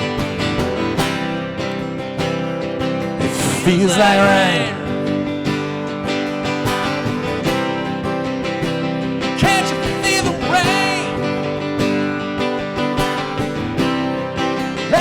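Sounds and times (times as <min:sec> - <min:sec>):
acoustic guitar country music: 0:00.0 - 0:15.0.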